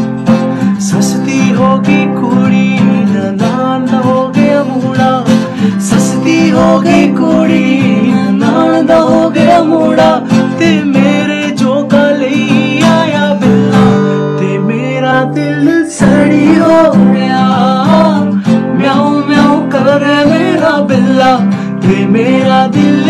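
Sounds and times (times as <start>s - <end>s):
strummed acoustic guitar: 0.0s - 23.0s
men singing folk song: 0.8s - 23.0s.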